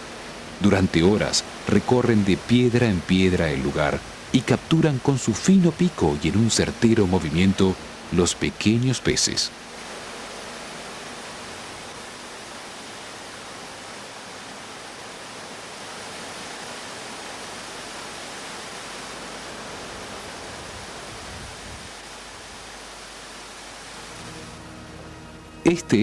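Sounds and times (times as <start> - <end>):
rushing water of waterfall: 0.0 - 26.0.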